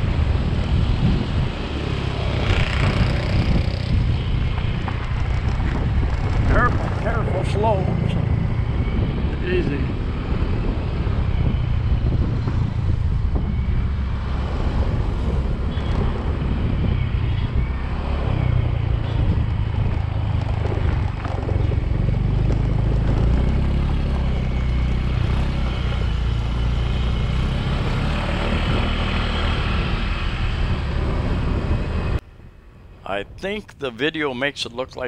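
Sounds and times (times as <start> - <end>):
tyre and road noise: 0.0 - 35.0
wind rushing on microphone: 0.0 - 35.0.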